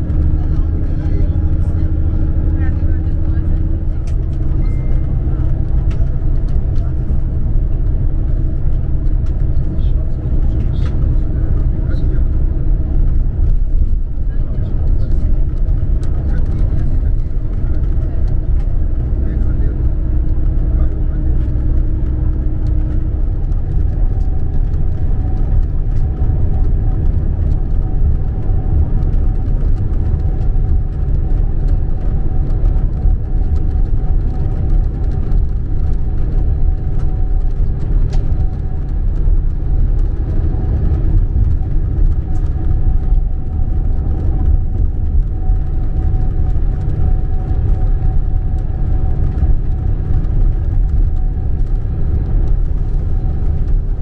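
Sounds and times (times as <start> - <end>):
coach engine drone: 0.0 - 54.0
road noise: 0.0 - 54.0.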